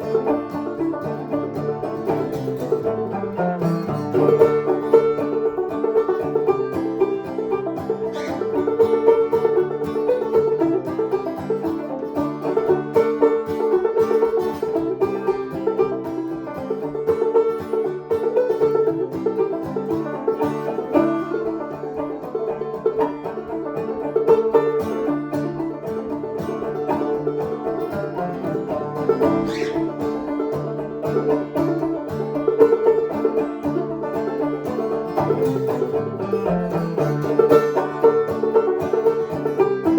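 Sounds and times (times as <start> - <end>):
band playing plucked strings: 0.0 - 39.9.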